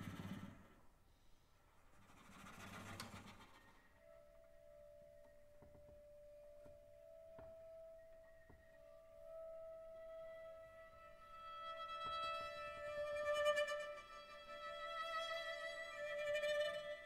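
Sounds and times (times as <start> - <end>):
soft chamber music: 2.7 - 17.0.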